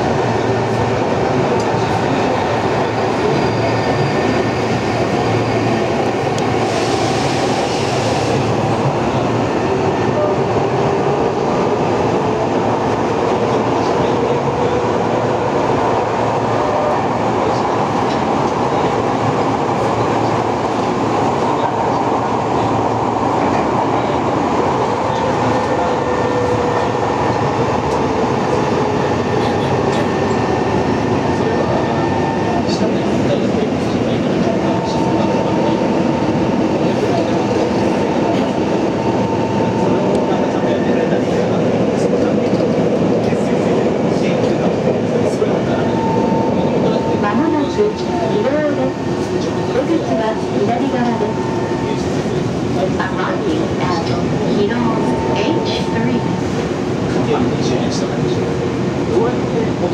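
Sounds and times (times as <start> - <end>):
subway wheels rumbling on rail: 0.0 - 59.9.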